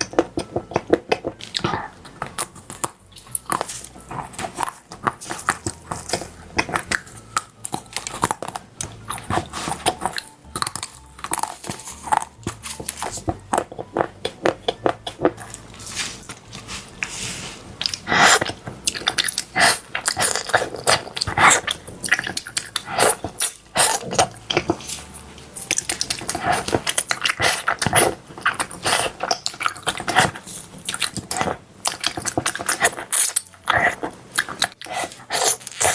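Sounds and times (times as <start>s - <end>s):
crunching and chewing crispy food: 0.0s - 35.9s.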